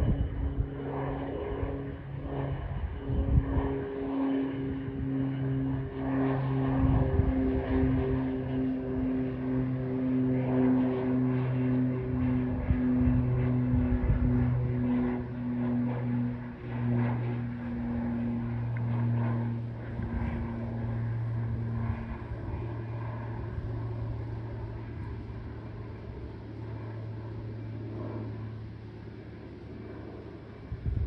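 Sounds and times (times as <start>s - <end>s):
low propeller hum: 0.0s - 31.0s.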